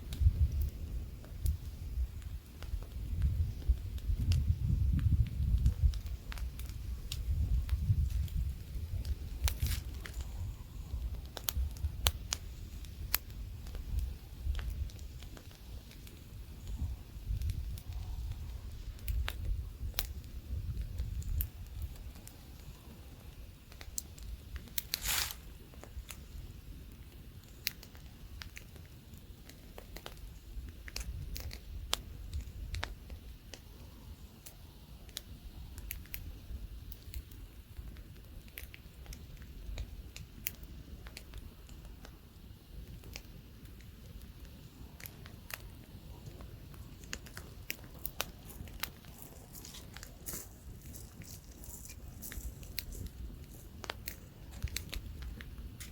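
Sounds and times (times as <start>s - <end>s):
campfire crackling and popping: 0.0s - 55.9s
light wind rumble: 0.0s - 55.9s.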